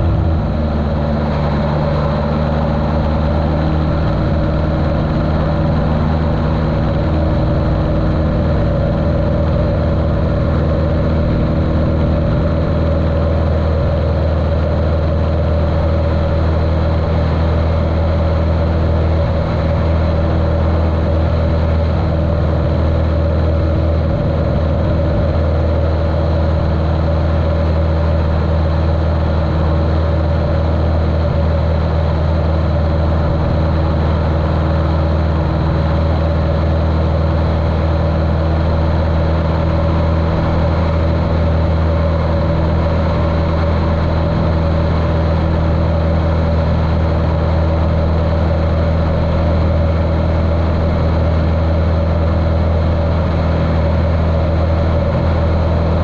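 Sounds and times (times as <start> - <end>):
muffled light aircraft engine: 0.0 - 56.0.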